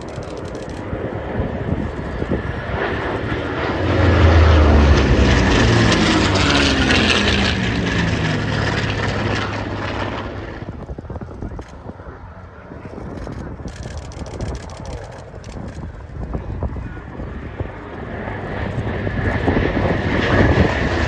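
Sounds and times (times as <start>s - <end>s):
propeller plane engines flyby: 0.0s - 21.0s.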